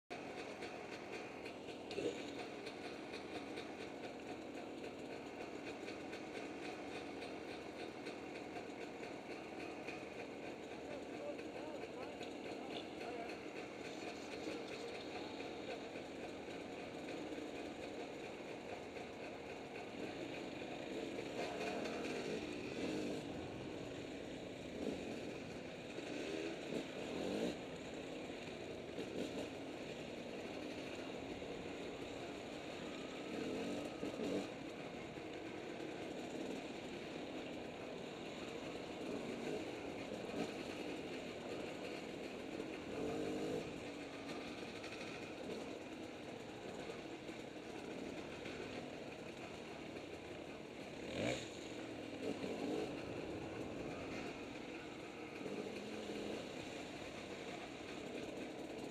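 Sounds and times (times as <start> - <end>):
two-stroke dirt bike engine revving: 0.1 - 58.9.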